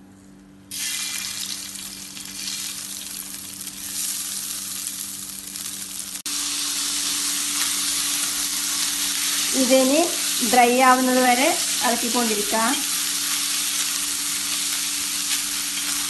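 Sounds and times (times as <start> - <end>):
rice sizzling in hot ghee: 0.7 - 16.0.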